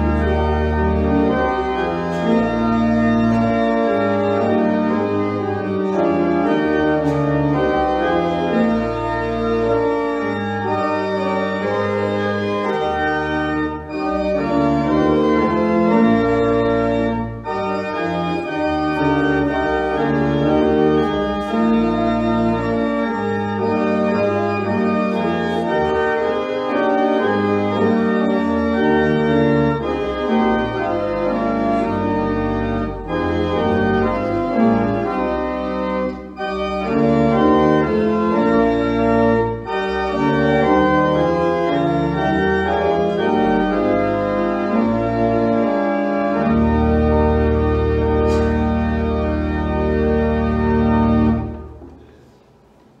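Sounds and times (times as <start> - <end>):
church organ chords: 0.0 - 52.4.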